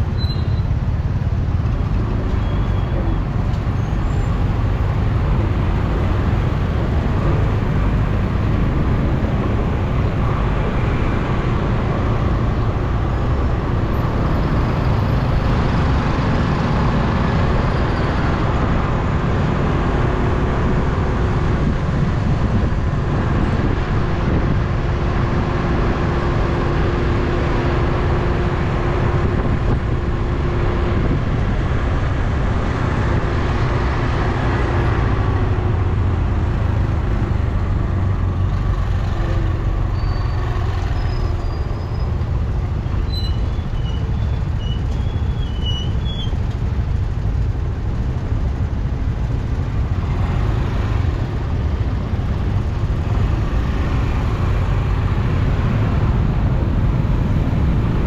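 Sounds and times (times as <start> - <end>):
road traffic rush: 0.0 - 58.0.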